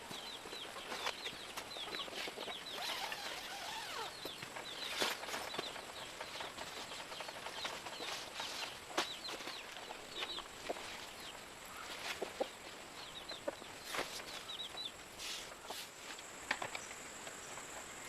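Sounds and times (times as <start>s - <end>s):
high insect hum: 0.0s - 18.0s
small birds chirping: 0.0s - 18.0s.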